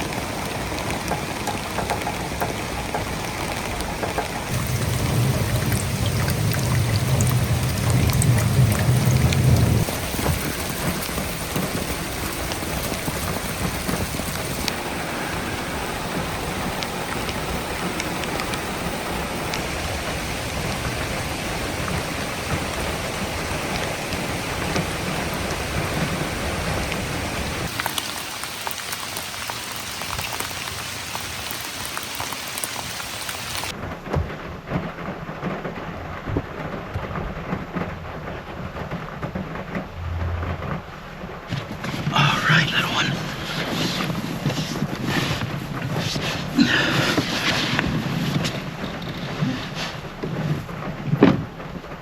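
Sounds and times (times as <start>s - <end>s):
heavy rain pouring: 0.0s - 52.0s
patter of raindrops: 0.0s - 52.0s.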